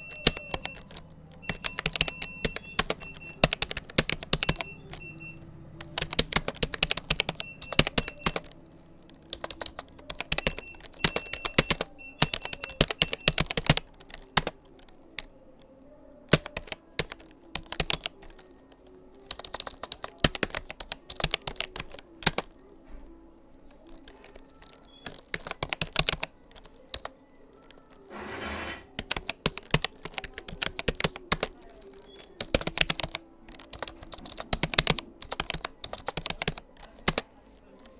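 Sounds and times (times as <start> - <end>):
keyboard key clicks: 0.0 - 15.3, 16.3 - 18.5, 19.3 - 22.6, 23.7 - 27.1, 29.0 - 37.9.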